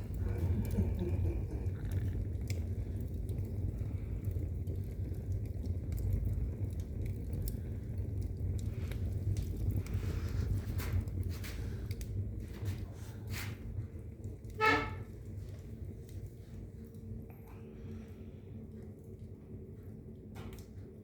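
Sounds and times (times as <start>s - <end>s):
fire crackles: 0.0s - 21.0s
fire rumbling: 0.0s - 21.0s.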